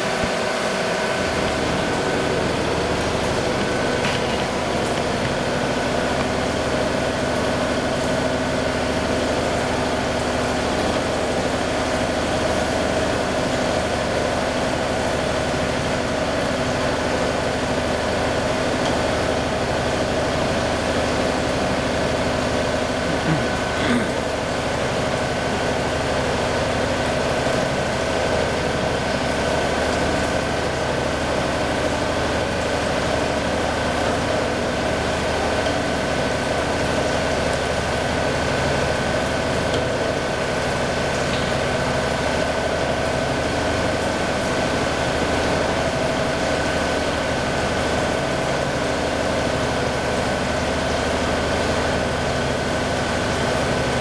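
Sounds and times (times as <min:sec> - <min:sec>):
coolant spraying: 0:00.0 - 0:54.0.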